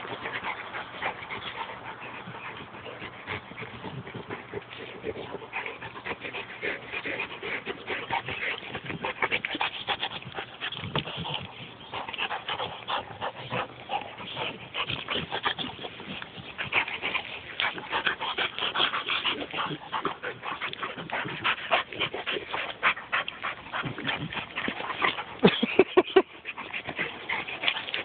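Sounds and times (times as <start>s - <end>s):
dogs growling while play-fighting: 0.0s - 28.0s.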